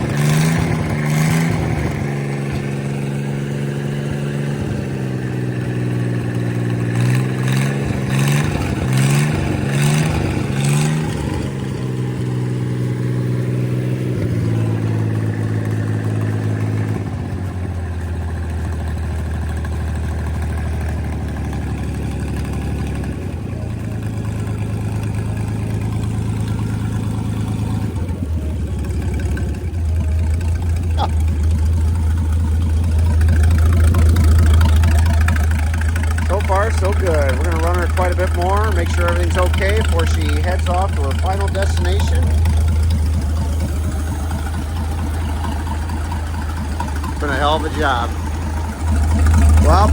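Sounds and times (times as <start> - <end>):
marine engine running: 0.0 - 49.9.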